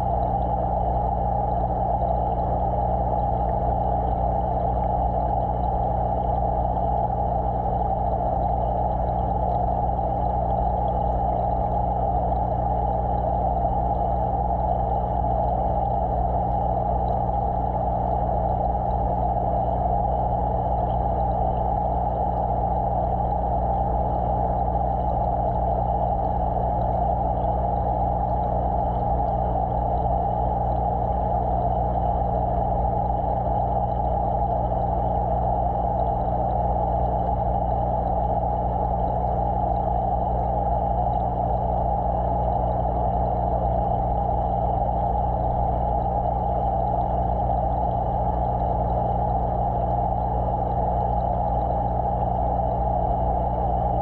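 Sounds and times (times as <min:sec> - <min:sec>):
aquarium equipment humming underwater: 0:00.0 - 0:54.0.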